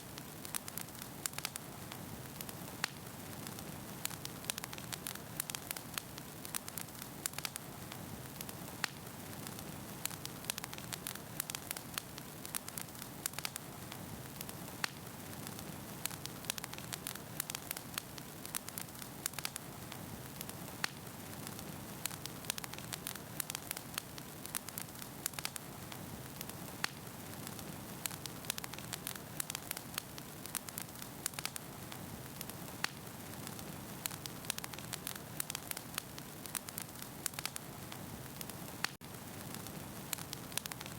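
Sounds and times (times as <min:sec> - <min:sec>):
logs popping and crackling: 0:00.0 - 0:40.9
wood fire burning: 0:00.0 - 0:40.9.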